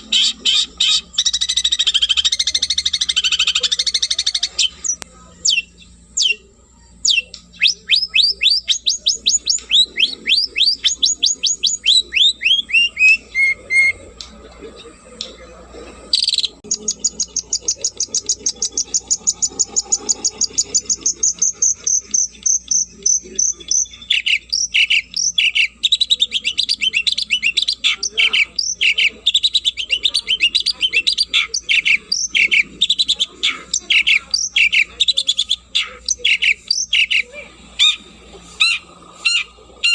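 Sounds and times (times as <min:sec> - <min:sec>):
shrike singing: 0:00.0 - 0:39.9.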